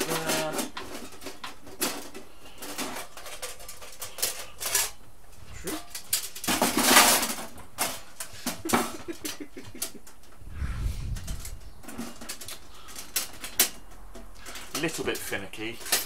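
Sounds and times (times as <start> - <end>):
metal panels clinking and scraping: 0.0 - 10.4, 11.0 - 16.0.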